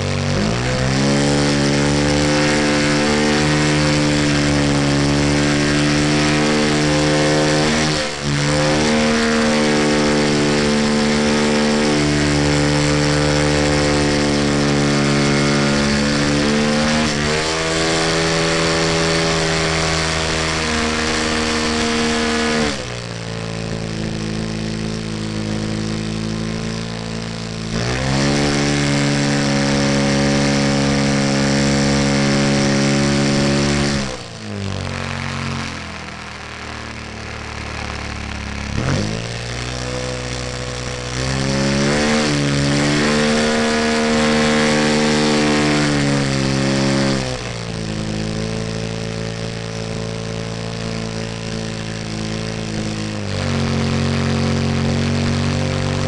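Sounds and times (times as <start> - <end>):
model plane engine running: 0.0 - 56.0.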